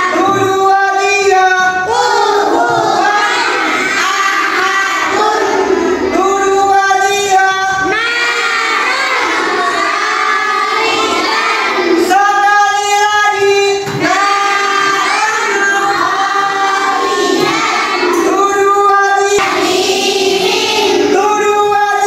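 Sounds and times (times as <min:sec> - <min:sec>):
children singing in unison: 0:00.0 - 0:22.0.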